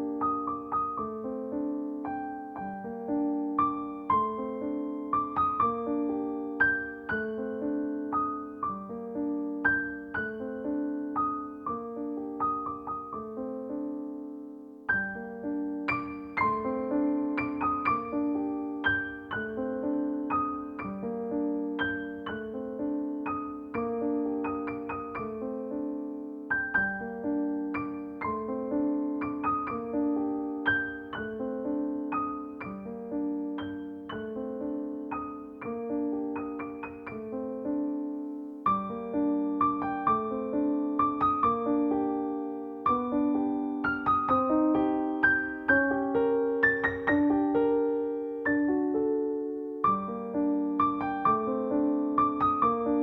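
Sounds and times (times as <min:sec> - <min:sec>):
gentle piano music: 0:00.0 - 0:53.0.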